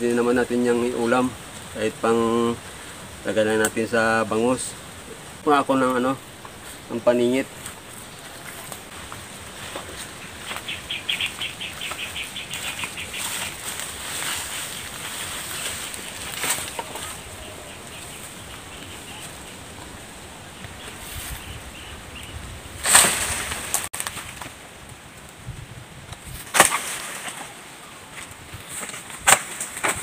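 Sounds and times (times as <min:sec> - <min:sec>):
leaves and undergrowth rustling: 0:00.0 - 0:30.0.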